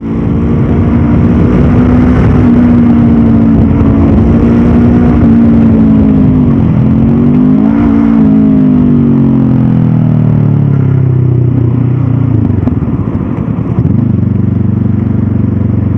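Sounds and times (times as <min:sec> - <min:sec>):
motorcycle engine running: 0:00.0 - 0:15.9.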